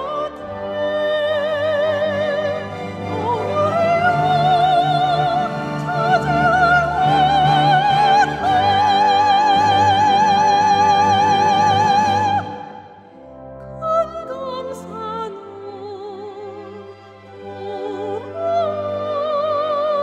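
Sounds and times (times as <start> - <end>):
soprano singing opera: 0.0 - 12.9, 13.8 - 20.0
instrumental accompaniment: 0.0 - 20.0.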